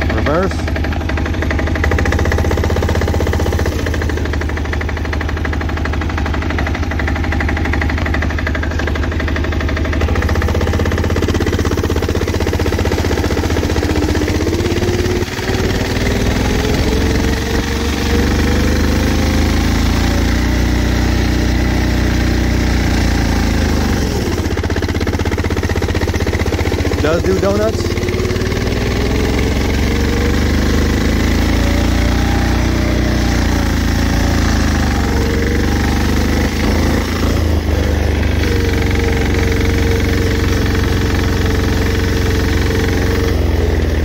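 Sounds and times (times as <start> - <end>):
diesel engine clattering: 0.0 - 44.0.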